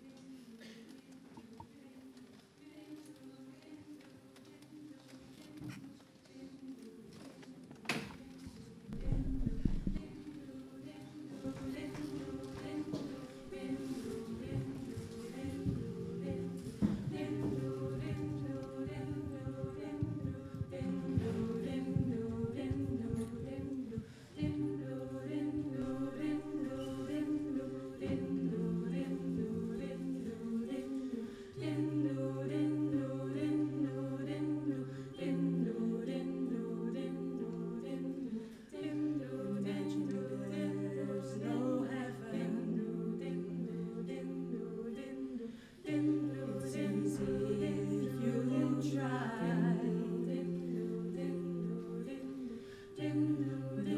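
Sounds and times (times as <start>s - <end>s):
a cappella group singing harmony: 0.0s - 53.9s.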